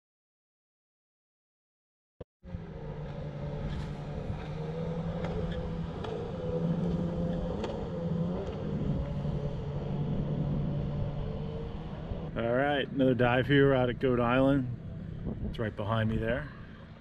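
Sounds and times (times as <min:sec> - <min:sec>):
boat engine humming: 0:02.4 - 0:17.0.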